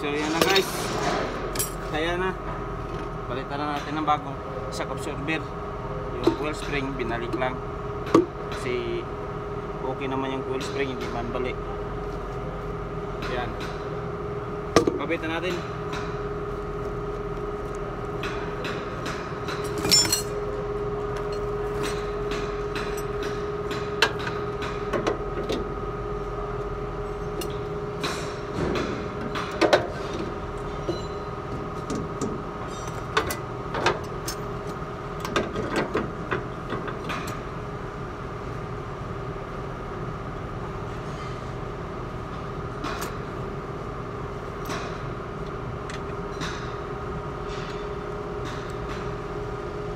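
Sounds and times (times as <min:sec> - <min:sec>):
steady mechanical hum: 0:00.0 - 0:49.9.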